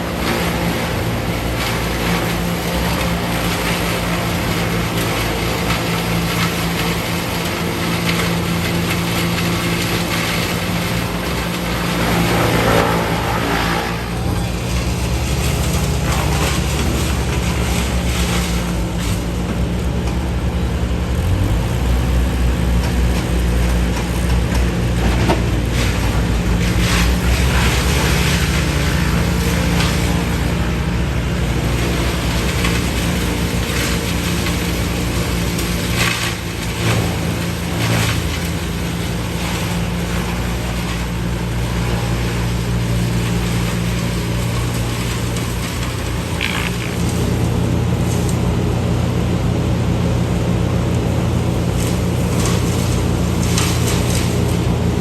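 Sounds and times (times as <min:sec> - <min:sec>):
heavy equipment engine running: 0:00.0 - 0:55.0.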